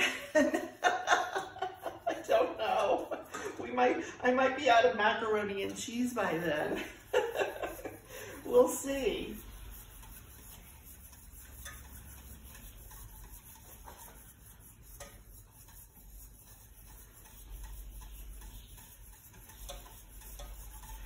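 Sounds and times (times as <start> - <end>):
utensil stirring sauce: 0.0 - 4.2, 5.6 - 21.0.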